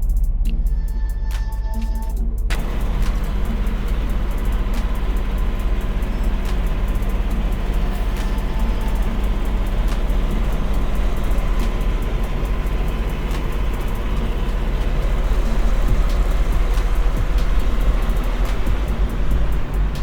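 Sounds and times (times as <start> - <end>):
road noise: 2.5 - 20.0
truck diesel engine running: 2.5 - 20.0.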